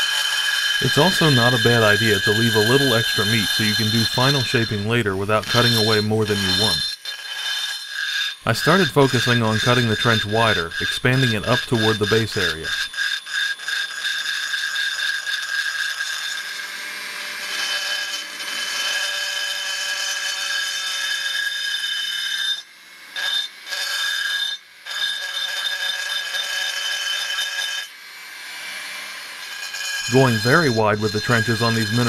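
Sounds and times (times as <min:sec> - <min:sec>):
rotary tool grinding metal: 0:00.0 - 0:32.0.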